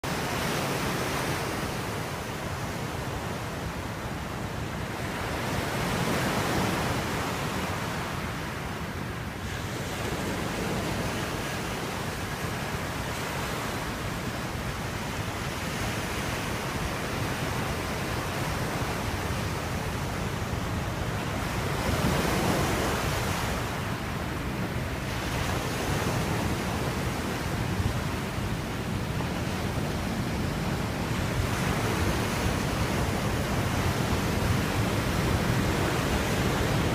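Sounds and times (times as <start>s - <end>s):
wind: 0.0s - 36.9s.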